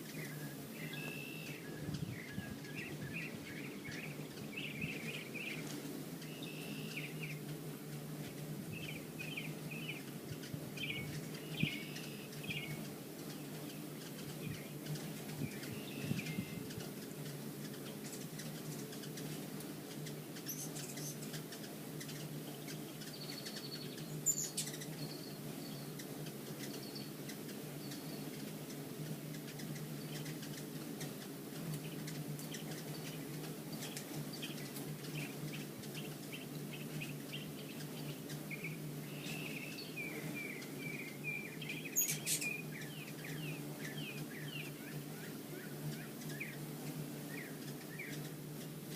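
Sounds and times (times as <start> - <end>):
hummingbirds chirping: 0.0 - 48.9.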